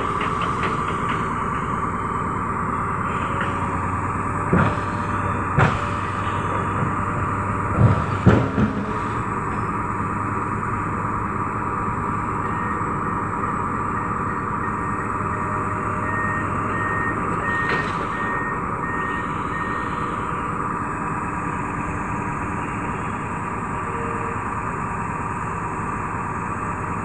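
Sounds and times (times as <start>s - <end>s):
crane engine whining: 0.0s - 27.0s.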